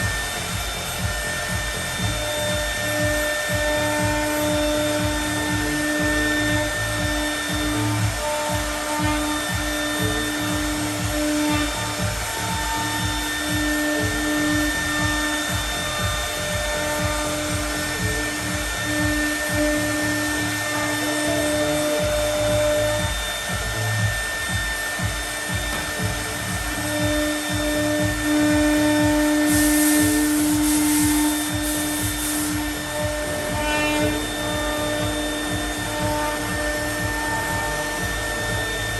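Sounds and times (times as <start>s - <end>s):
hiss: 0.0s - 38.9s
low machine rumble: 0.0s - 38.9s
router spindle whine: 0.0s - 38.9s.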